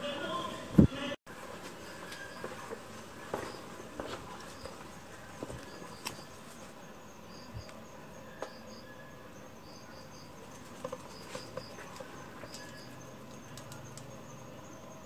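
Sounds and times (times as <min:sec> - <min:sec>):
insects chirping: 0:01.3 - 0:15.0.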